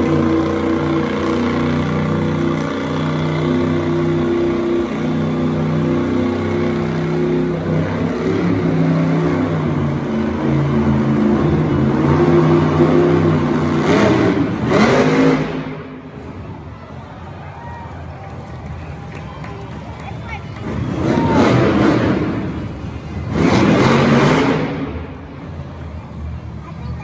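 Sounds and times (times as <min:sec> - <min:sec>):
monster truck engine revving: 0:00.0 - 0:17.4, 0:18.3 - 0:27.0.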